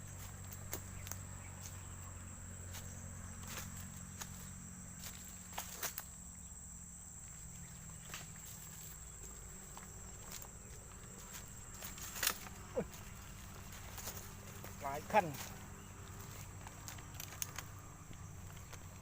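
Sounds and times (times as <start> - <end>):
footsteps crunching: 0.0 - 6.1, 7.2 - 19.0
high-pitched insect drone: 0.0 - 19.0.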